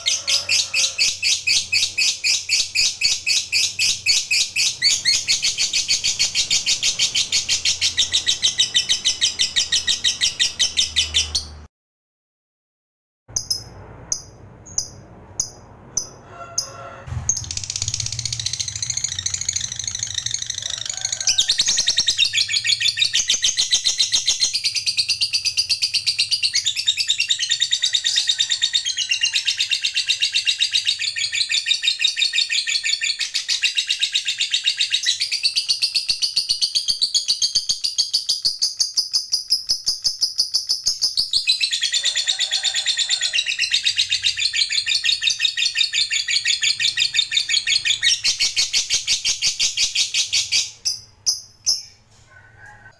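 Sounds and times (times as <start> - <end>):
lovebird chirping and trilling: 0.0 - 11.7, 13.3 - 16.2, 17.2 - 52.0.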